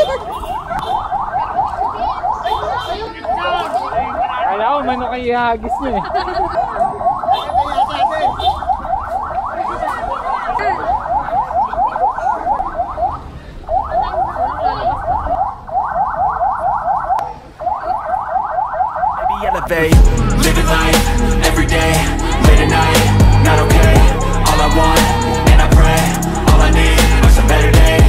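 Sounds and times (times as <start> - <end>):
electronic siren yelping: 0.0 - 28.0.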